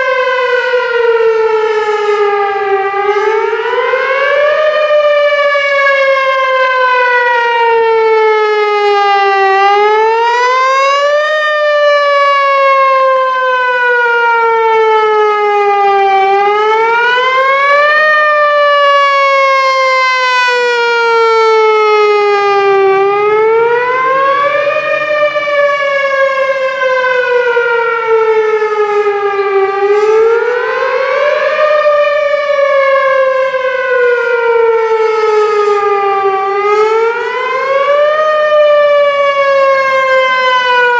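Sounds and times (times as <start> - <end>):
outdoor warning siren wailing: 0.0 - 40.9.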